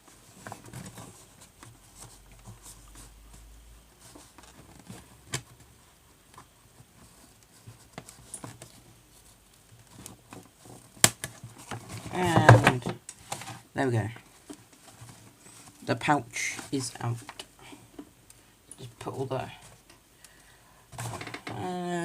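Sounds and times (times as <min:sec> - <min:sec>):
cardboard packaging rustling: 0:00.0 - 0:18.3.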